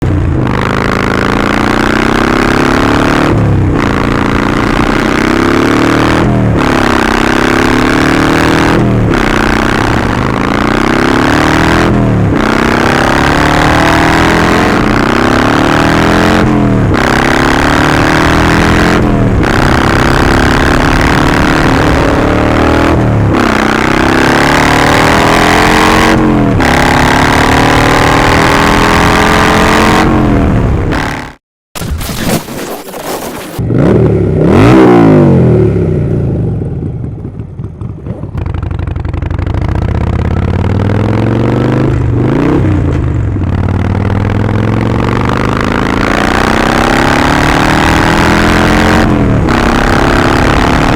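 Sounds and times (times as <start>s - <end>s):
motorcycle engine accelerating: 0.0s - 31.4s, 32.2s - 50.9s.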